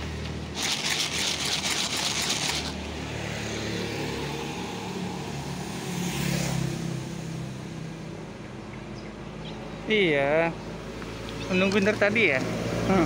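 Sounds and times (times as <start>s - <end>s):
motorcycle passing: 0.0s - 8.5s, 9.2s - 13.0s
road traffic passing: 0.0s - 13.0s.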